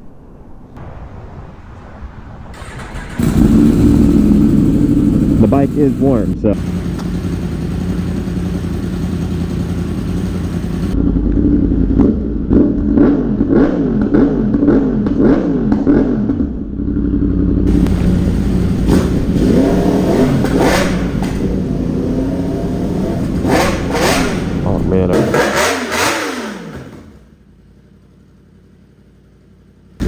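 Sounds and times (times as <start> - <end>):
exhaust cracks: 2.5 - 16.7, 17.6 - 30.0
motorcycle engine revving: 2.6 - 30.0.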